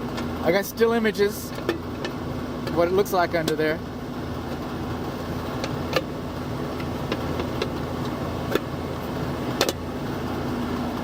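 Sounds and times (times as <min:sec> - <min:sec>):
condensing units humming: 0:00.0 - 0:11.0.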